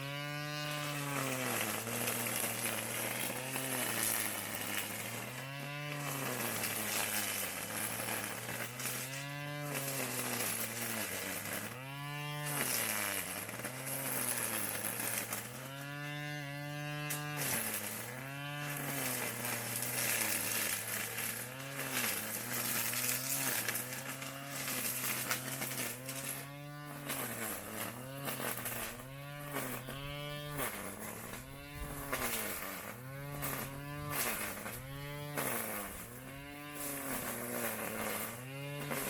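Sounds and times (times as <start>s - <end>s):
grass cutter engine running: 0.0s - 39.0s.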